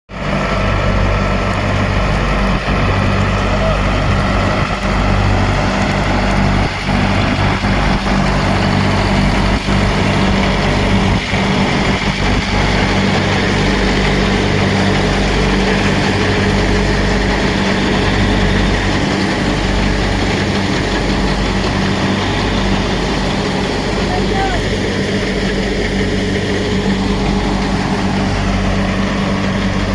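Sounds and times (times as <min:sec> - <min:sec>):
tractor diesel engine running: 0:00.1 - 0:29.9.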